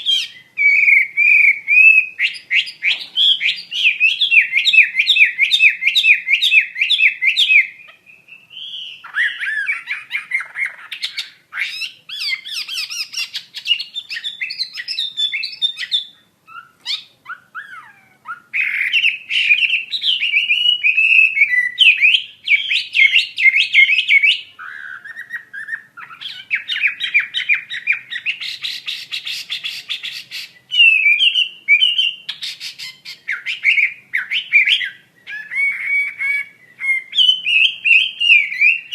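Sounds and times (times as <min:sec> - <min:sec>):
bird whistling and trilling: 0:00.0 - 0:38.9.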